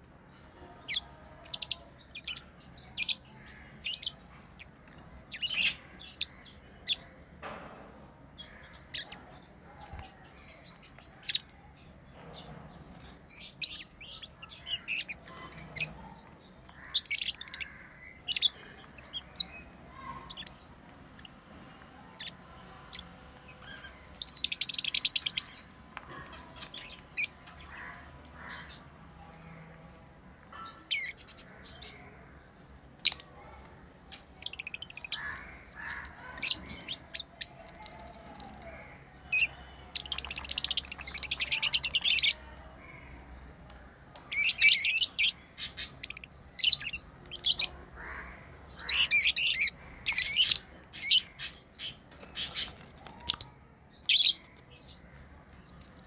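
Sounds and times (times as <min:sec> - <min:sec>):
lovebirds chirping: 0:08.4 - 0:56.0.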